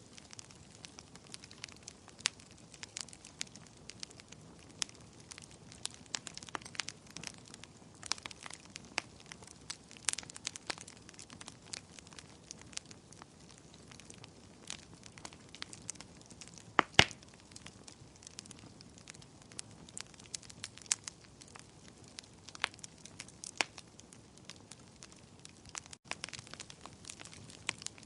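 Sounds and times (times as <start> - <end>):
wood fire crackling: 0.0 - 28.0
loud fire pops: 0.1 - 28.0.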